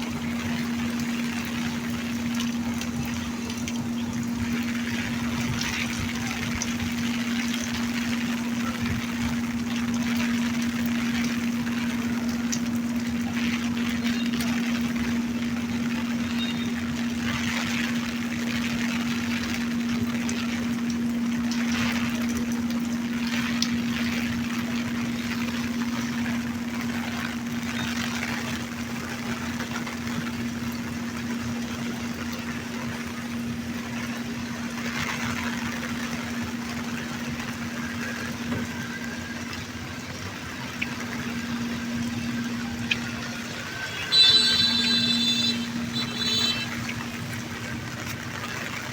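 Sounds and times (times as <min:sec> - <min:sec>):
constant low hum: 0:00.0 - 0:48.9
steady rain falling: 0:00.0 - 0:48.9.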